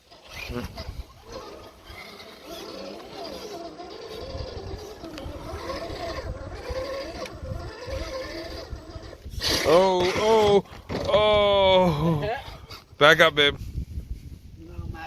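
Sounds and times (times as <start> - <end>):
electric motors whining: 0.0 - 12.8.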